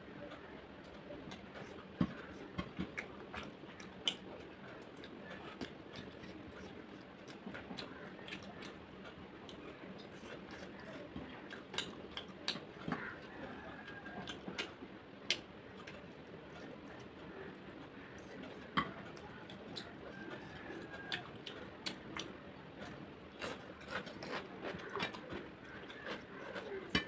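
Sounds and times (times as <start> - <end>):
person chewing food: 0.3 - 27.0.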